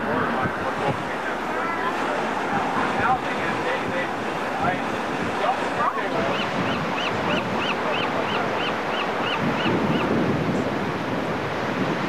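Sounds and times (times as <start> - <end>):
ocean surf breaking on rocks: 0.0 - 12.0
wind buffeting microphone: 0.0 - 12.0.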